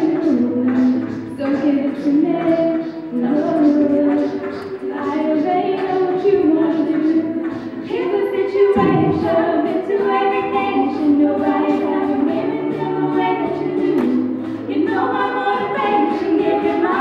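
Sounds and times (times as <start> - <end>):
backing vocal harmonies: 0.0 - 17.0
vocal percussion beat: 0.0 - 17.0
woman singing lead: 0.0 - 17.0.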